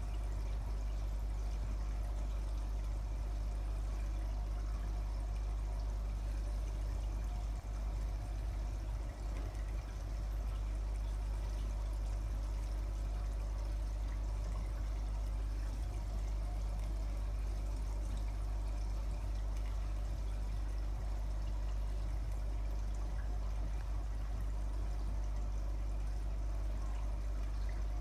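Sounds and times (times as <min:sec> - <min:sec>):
water splashing into aquarium: 0:00.0 - 0:28.0.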